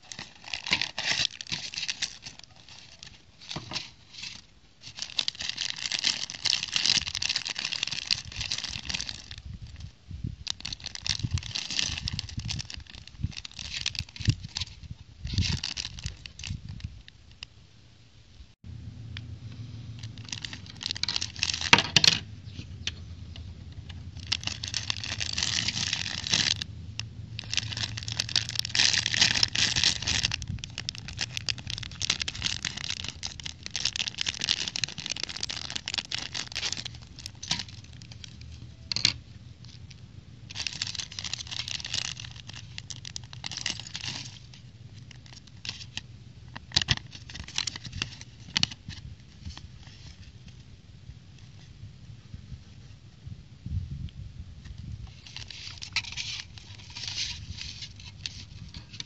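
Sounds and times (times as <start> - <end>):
plastic bags crinkling: 0.0 - 17.4, 19.8 - 50.3, 55.0 - 59.0.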